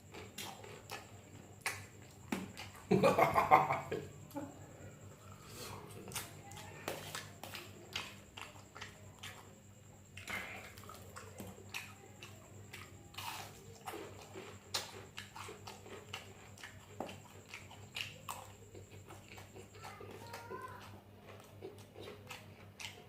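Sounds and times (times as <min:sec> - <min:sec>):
faint steady hum: 0:00.0 - 0:23.0
mouth chewing food: 0:00.0 - 0:23.0.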